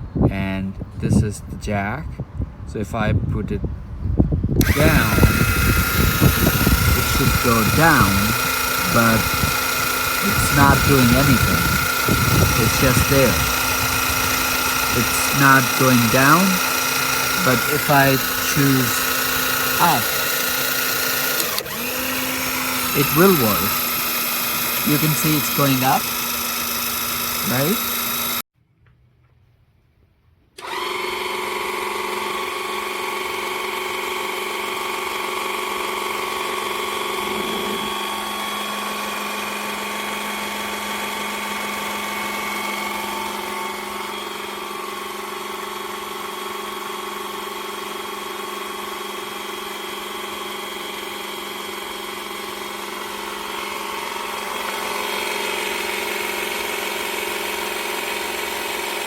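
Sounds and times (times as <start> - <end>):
electric jack motor whine: 4.6 - 28.4, 30.6 - 59.0.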